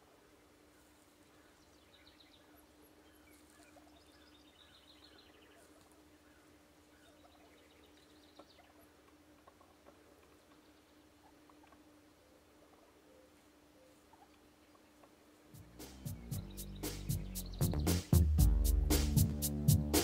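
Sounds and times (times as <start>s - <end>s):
small birds chirping: 0.2s - 19.3s.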